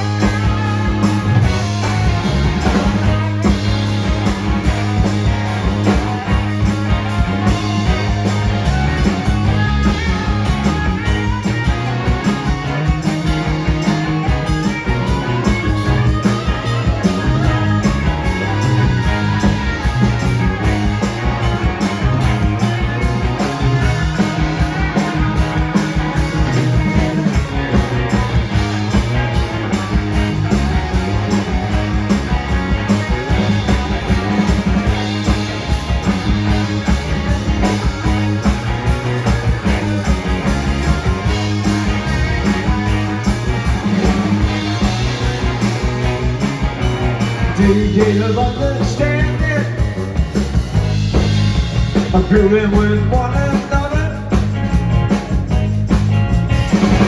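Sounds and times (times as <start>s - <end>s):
bass guitar: 0.0s - 57.0s
drum kit beat: 0.0s - 57.0s
electric guitar: 0.0s - 57.0s.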